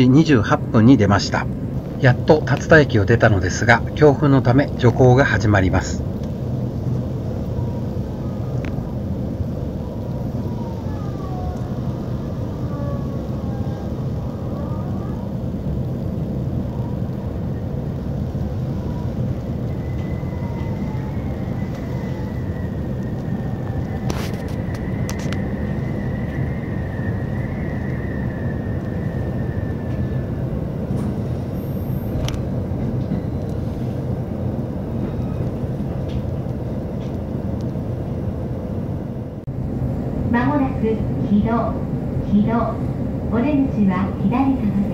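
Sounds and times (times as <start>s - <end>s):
train rumble from inside car: 0.0s - 44.9s.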